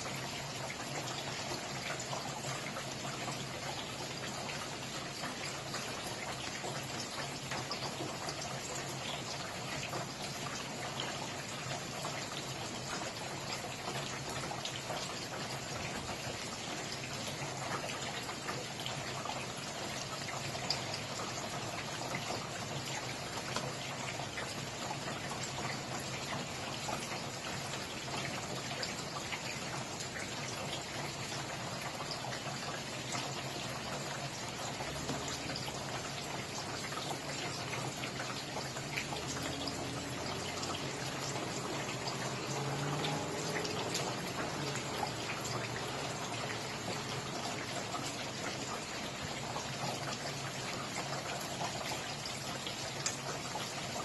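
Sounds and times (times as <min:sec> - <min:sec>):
raindrops ticking: 0:00.0 - 0:54.0
steady rainfall: 0:00.0 - 0:54.0.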